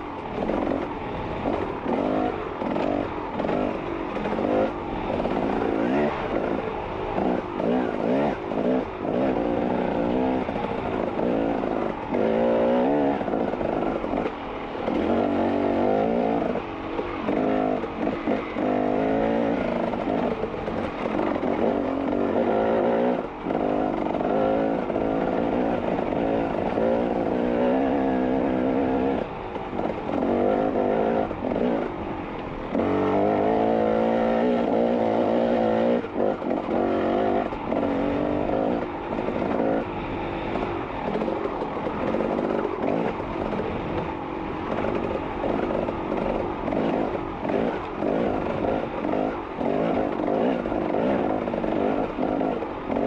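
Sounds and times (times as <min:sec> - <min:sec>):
off-road vehicle engine revving: 0:00.0 - 0:31.9, 0:32.5 - 0:53.0.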